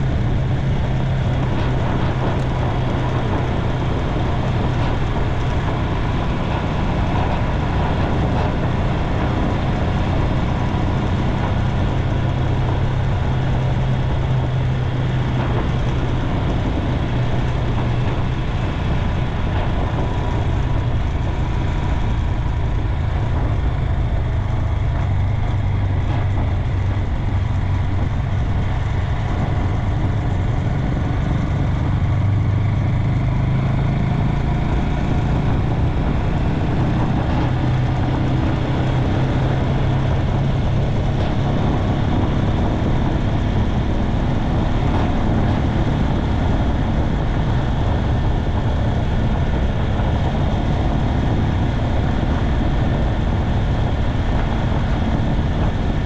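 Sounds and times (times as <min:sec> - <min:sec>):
motorcycle engine drone: 0:00.0 - 0:56.0
wind and road noise: 0:00.0 - 0:56.0.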